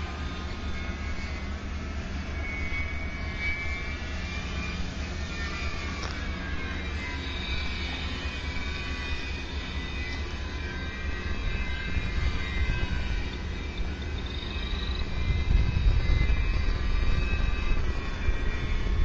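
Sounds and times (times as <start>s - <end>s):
propellers whining overhead: 0.0s - 19.0s.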